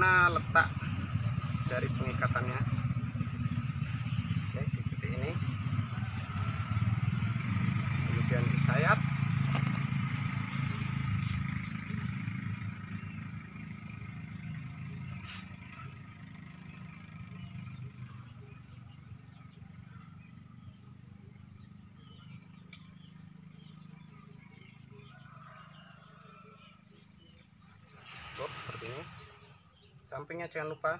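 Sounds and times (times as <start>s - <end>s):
vehicle engine rumble: 0.0s - 30.9s.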